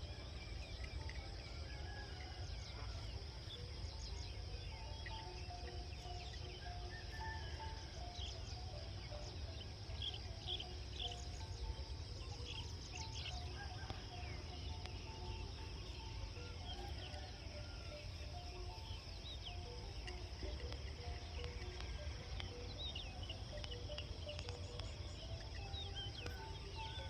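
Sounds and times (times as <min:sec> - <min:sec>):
high insect drone: 0:00.0 - 0:27.0
low tonal calls: 0:00.0 - 0:27.0.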